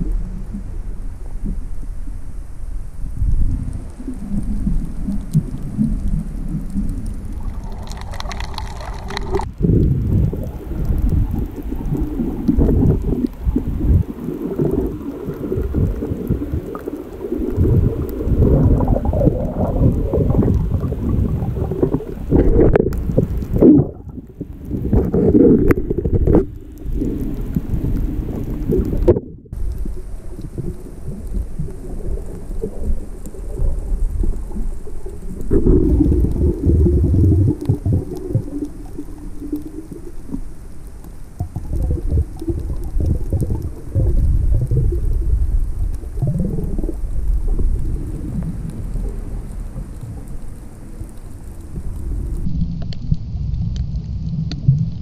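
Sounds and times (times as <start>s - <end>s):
underwater rumble and sloshing: 0.0s - 55.0s.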